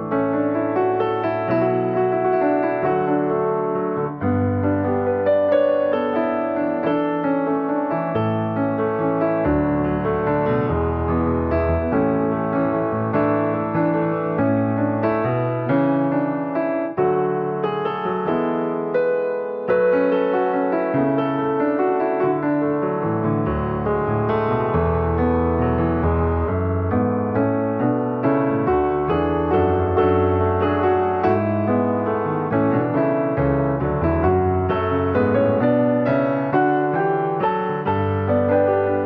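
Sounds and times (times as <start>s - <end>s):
gentle solo piano: 0.0s - 39.0s.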